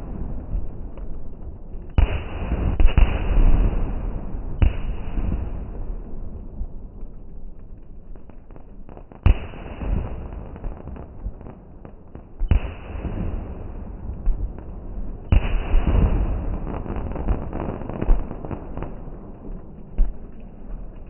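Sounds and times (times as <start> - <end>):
small firework pops: 0.0 - 6.0, 6.9 - 21.0
rumbling crackling firework tail: 0.0 - 21.0.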